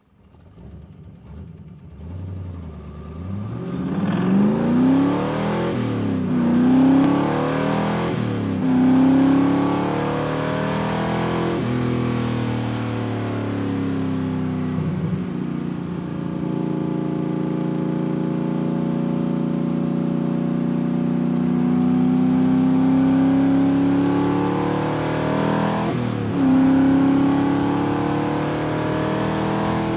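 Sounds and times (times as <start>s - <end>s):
car engine revving and running: 0.0s - 29.9s.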